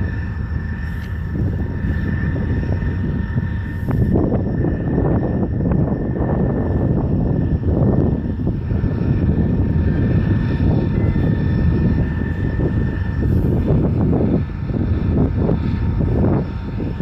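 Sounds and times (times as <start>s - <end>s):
thin steady high tone: 0.0s - 17.0s
train rumbling over tracks: 0.0s - 17.0s.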